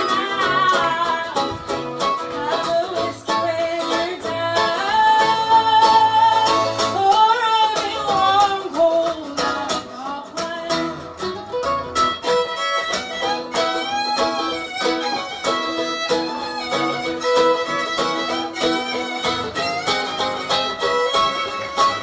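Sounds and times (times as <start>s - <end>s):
fiddle melody: 0.0s - 8.6s, 10.3s - 22.0s
strummed acoustic guitar: 0.0s - 22.0s.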